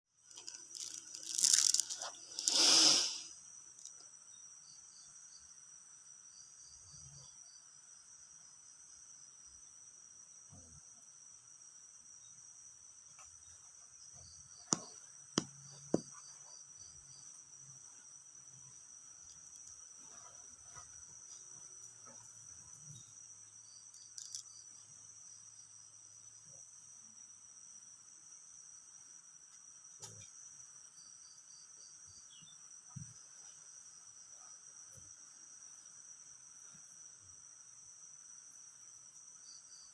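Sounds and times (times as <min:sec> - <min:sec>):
insects chirping: 0:00.2 - 0:39.9.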